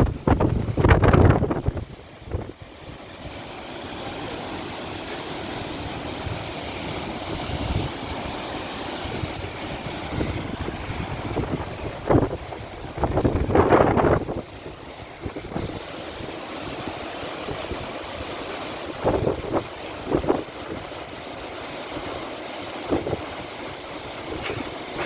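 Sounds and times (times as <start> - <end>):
wind rumbling on microphone: 0.0 - 4.0, 5.6 - 22.2, 22.8 - 25.0
waterfall roaring: 0.0 - 25.0.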